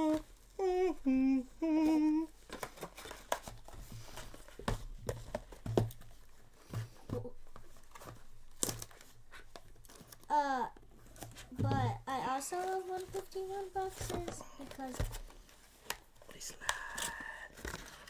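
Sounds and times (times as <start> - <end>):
packaging crinkling and rustling: 2.0 - 18.0.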